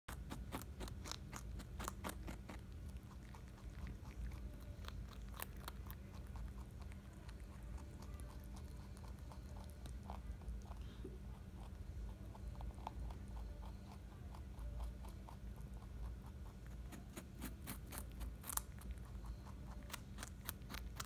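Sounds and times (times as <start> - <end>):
rabbit chewing carrot: 0.1 - 21.0.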